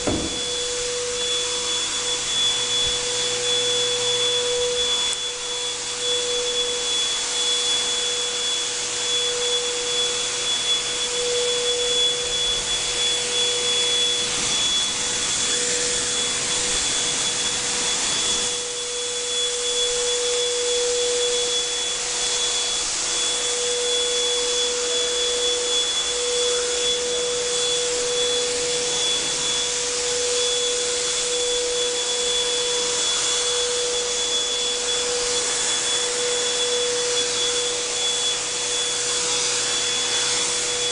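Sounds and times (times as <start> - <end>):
air blower rushing air: 0.0 - 40.9
motor whine: 0.0 - 40.9.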